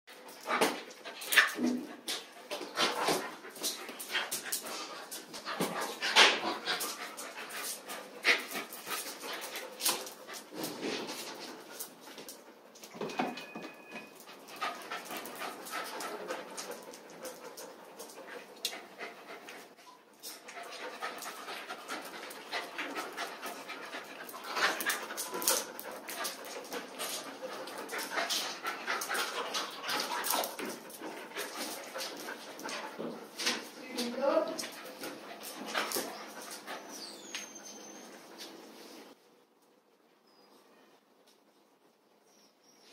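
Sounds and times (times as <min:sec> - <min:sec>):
dogs panting: 0:00.1 - 0:12.8, 0:14.1 - 0:39.2
paws clicking on tiled floor: 0:00.1 - 0:39.8.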